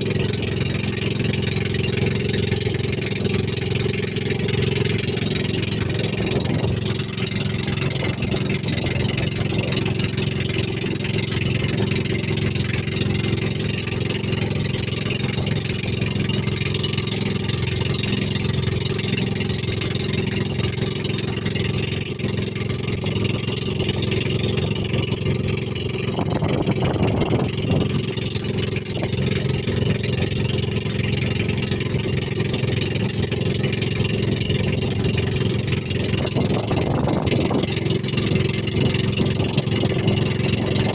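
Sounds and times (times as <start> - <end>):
boat motor running: 0.0 - 40.9.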